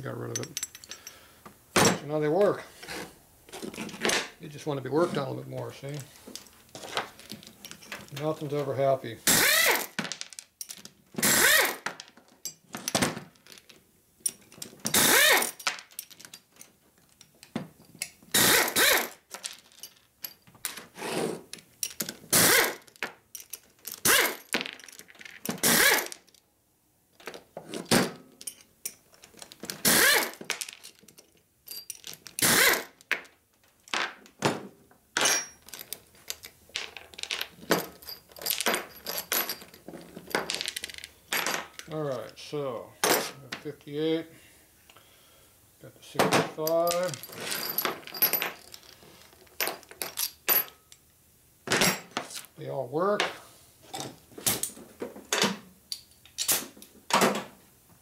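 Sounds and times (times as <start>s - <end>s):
metal parts clinking and scraping: 0.2s - 1.3s, 2.0s - 4.4s, 5.0s - 26.4s, 27.2s - 34.4s, 35.2s - 42.4s, 46.0s - 51.0s, 53.1s - 56.9s.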